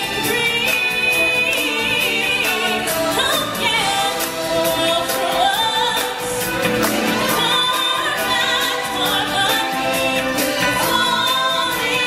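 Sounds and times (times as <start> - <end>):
band with steady drum beat: 0.0 - 12.0
choir singing: 0.0 - 12.0.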